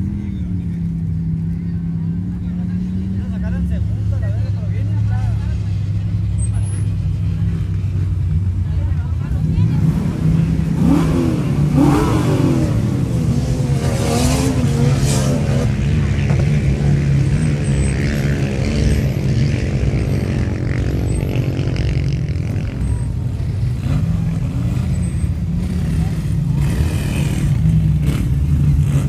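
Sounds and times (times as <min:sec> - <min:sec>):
people's voices: 0:00.0 - 0:29.0
vehicle engines humming: 0:00.0 - 0:29.0.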